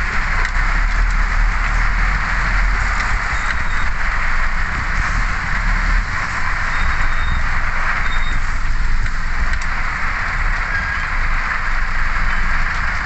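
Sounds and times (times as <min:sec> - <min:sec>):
engine and traffic rumble: 0:00.0 - 0:13.0
heavy rain on vehicle roof: 0:00.0 - 0:13.0.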